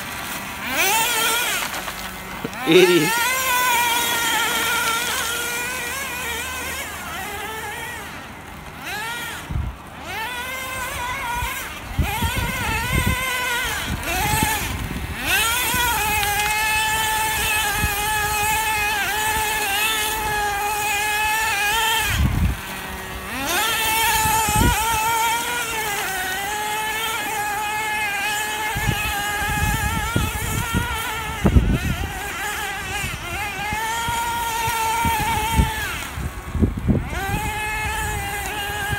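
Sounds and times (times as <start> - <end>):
small engine buzzing whine: 0.0 - 38.9.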